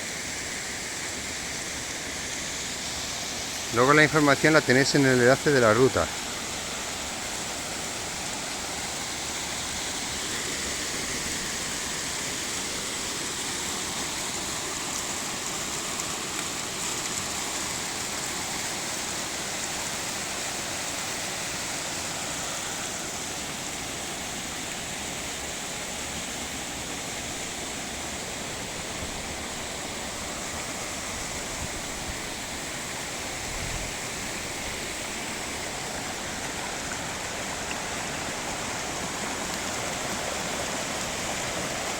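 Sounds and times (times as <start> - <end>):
small waterfall rushing: 0.0 - 41.9.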